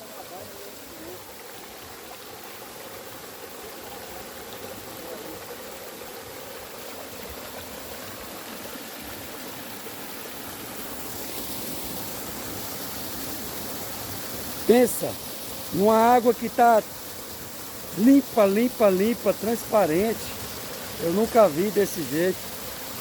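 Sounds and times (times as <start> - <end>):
water rushing in a stream: 0.0 - 23.0.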